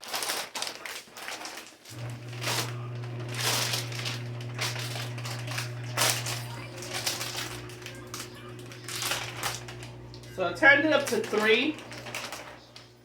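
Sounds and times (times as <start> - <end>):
steady low hum: 2.0 - 13.0.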